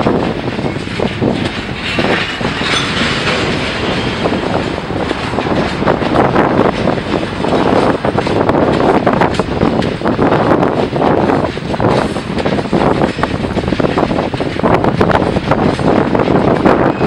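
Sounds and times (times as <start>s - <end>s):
railcars rumbling: 0.0s - 17.0s
wheels clicking over rail joints: 0.0s - 17.0s.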